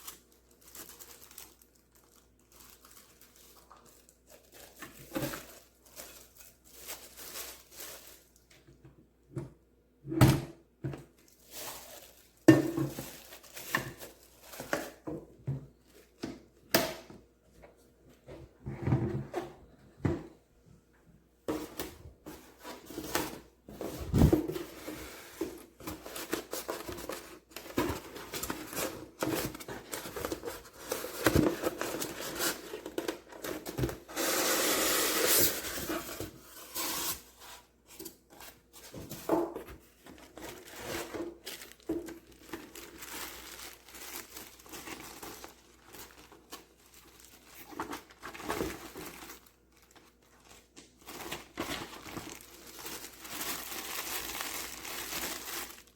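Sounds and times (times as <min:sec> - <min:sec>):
packaging rustling and tearing: 0:00.0 - 0:08.5, 0:11.2 - 0:15.0, 0:21.8 - 0:55.9.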